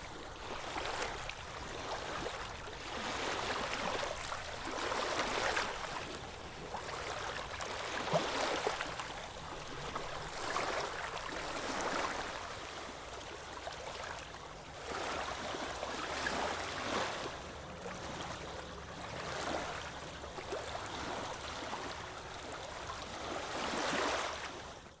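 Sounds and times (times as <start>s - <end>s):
ocean waves washing onto beach: 0.0s - 25.0s.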